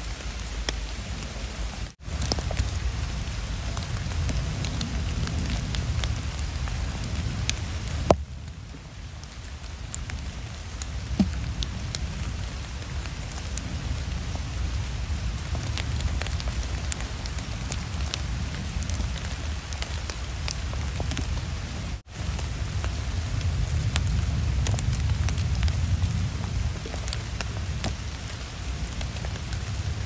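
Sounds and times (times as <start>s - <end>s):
raindrops ticking near microphone: 0.0s - 30.0s
steady rain: 0.0s - 30.0s.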